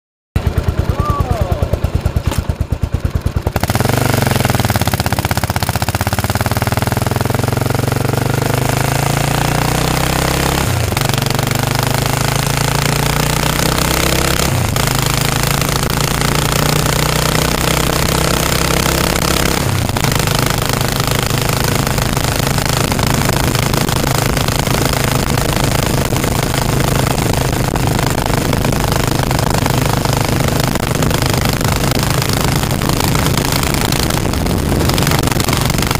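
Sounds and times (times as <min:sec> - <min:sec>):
motorcycle engine accelerating: 0:00.4 - 0:35.9.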